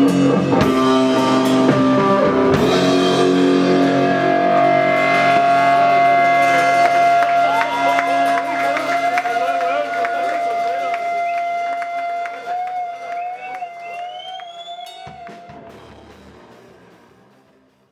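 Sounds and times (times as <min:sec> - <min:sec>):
electric guitars: 0:00.0 - 0:17.8
drum kit: 0:00.0 - 0:17.9.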